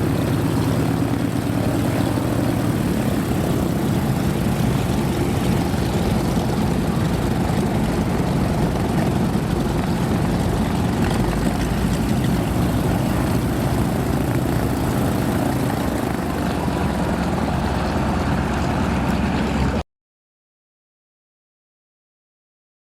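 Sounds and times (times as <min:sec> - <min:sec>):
propeller aircraft engine running: 0:00.0 - 0:19.8.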